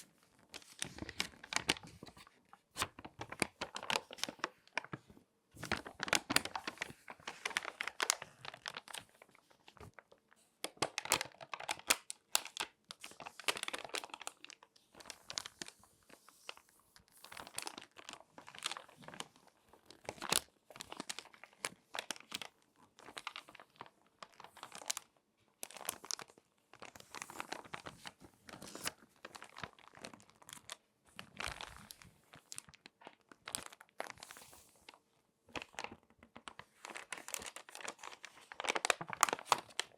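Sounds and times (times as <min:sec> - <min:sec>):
magazine pages crinkling: 0:00.0 - 0:39.9.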